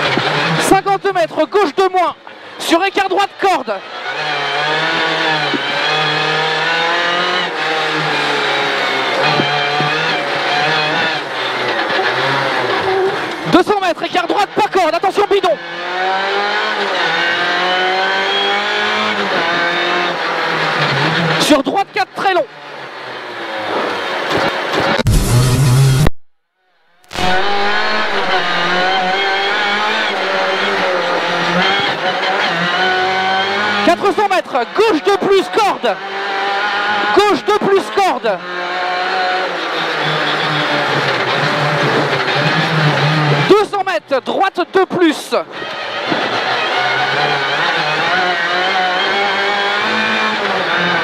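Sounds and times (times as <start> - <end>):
rally car engine at high revs: 0.0 - 26.1, 27.0 - 51.0.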